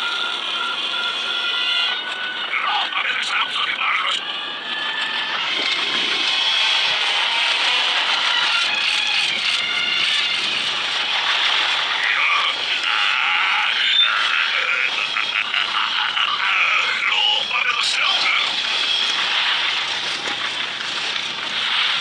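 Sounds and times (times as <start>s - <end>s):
reversed film music: 0.0s - 22.0s
reversed train sound effects: 0.0s - 22.0s.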